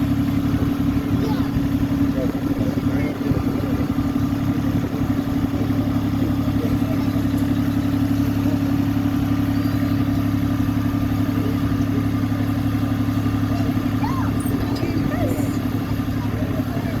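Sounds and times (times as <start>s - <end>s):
locomotive engine humming: 0.0s - 17.0s.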